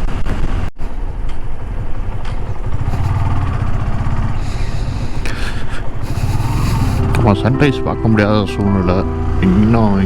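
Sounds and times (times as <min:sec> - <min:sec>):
motorcycle engine running: 0:00.4 - 0:10.0.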